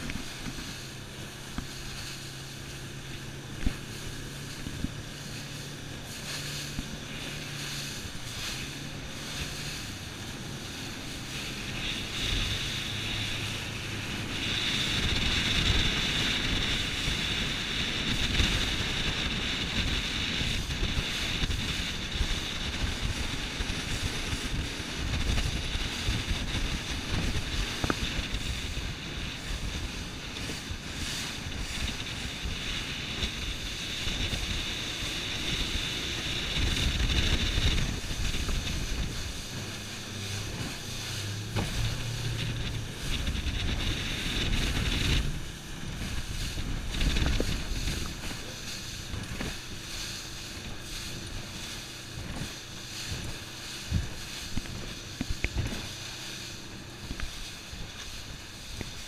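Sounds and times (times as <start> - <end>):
boat engine drone: 0.0 - 59.0
high whine: 0.0 - 59.0
water rushing past boat: 0.0 - 59.0
wind buffeting microphone: 0.0 - 59.0.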